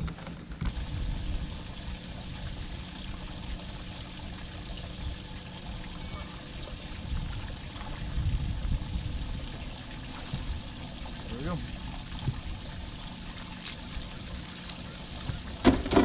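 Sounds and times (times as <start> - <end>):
steady low rumble: 0.7 - 15.6
water lapping against boat hull: 0.7 - 16.0.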